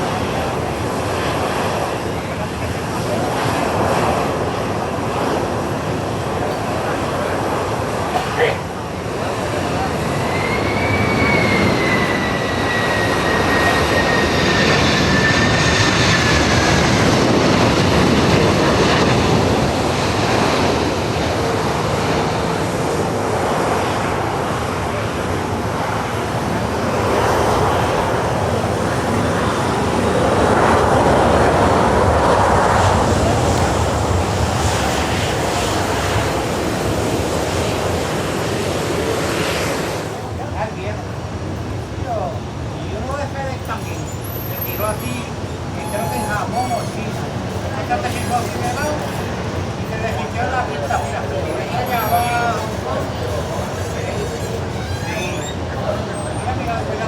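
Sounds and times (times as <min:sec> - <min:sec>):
high engine whine: 0:00.0 - 0:57.0
jet engines roaring: 0:00.0 - 0:57.0.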